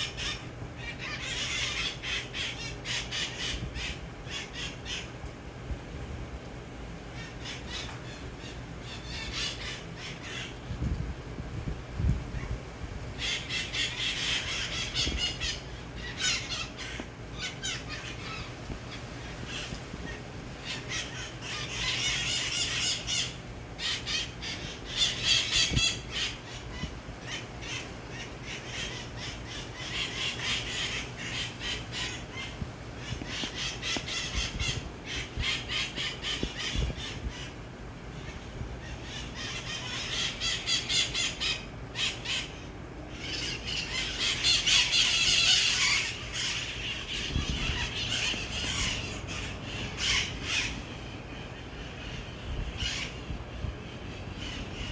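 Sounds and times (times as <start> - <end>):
parrots screeching and squawking: 0.0 - 5.1, 7.2 - 10.6, 13.2 - 37.6, 38.2 - 54.9.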